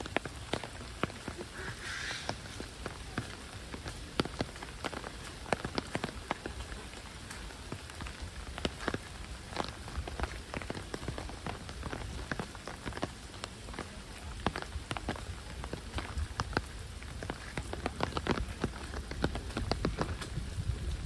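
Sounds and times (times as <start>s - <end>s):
close raindrop taps: 0.0s - 21.0s
heavy rain falling: 0.0s - 21.0s.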